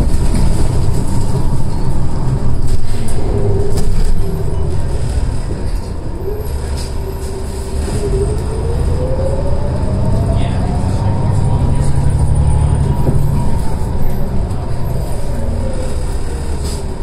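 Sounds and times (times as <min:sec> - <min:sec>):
bus rumble: 0:00.0 - 0:17.0
drivetrain whine: 0:00.0 - 0:17.0.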